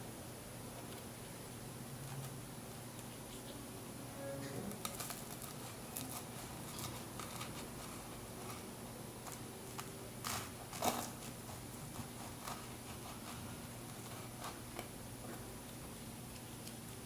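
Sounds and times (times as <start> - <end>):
low room hiss: 0.0 - 17.0.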